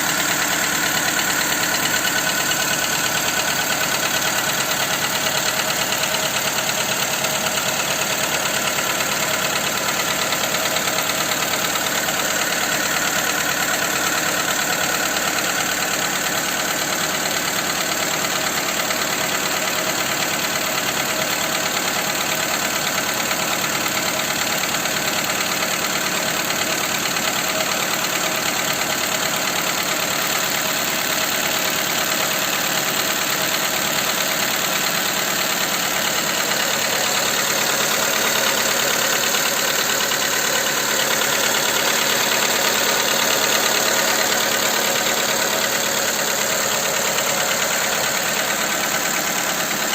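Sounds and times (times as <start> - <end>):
car engine running with knock: 0.0 - 49.9.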